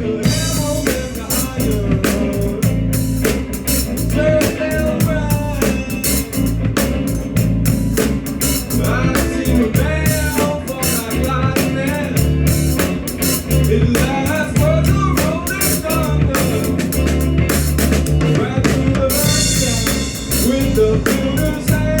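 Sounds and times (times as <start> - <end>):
drum kit beat: 0.0 - 22.0
rock band music: 0.0 - 22.0.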